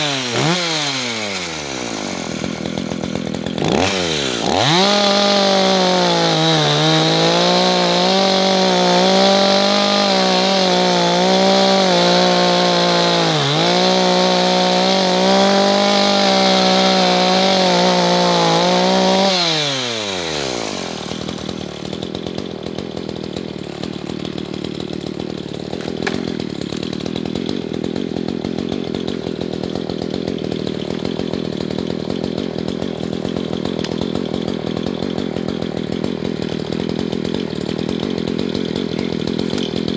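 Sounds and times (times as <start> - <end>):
chainsaw cutting log: 0.0 - 39.9
chainsaw idling: 0.0 - 39.9.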